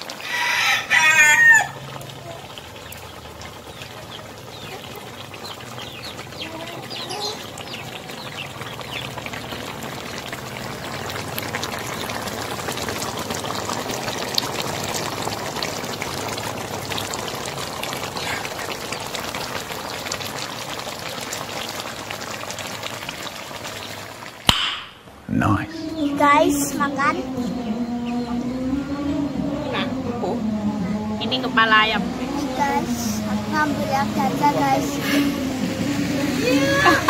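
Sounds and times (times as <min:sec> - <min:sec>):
broth bubbling in a wok: 0:00.0 - 0:25.2, 0:28.1 - 0:37.0.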